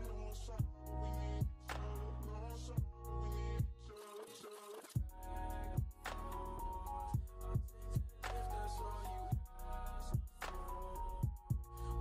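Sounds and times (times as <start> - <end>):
deep steady bass: 0.0 - 3.9, 5.0 - 12.0.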